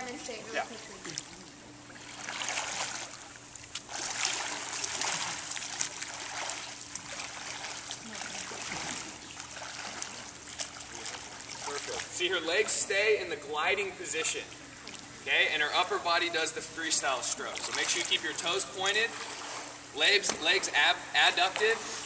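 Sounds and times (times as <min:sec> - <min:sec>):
water splashing from swim strokes: 0:00.6 - 0:13.0, 0:14.6 - 0:22.0.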